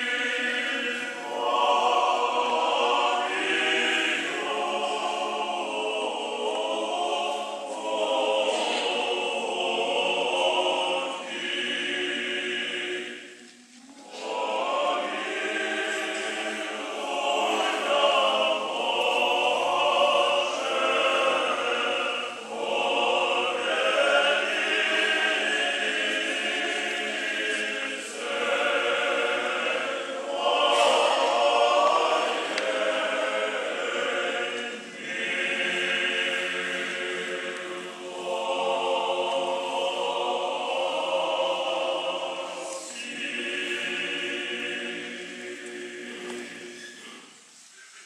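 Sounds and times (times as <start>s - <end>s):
choir chanting unaccompanied: 0.0s - 47.4s.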